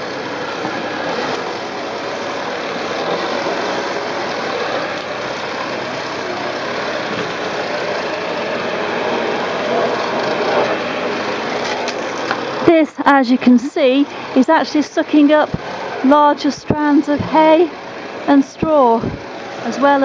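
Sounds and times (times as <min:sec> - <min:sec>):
vacuum cleaner on carpet: 0:00.0 - 0:12.8, 0:13.4 - 0:20.0.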